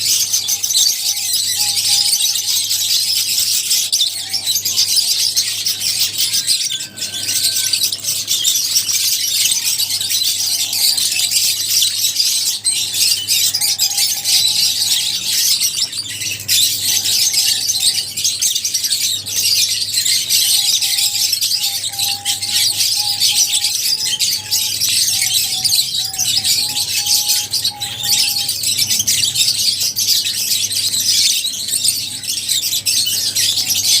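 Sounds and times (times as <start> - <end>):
birds chirping and twittering: 0.0 - 34.0
lower bird calls: 0.0 - 34.0.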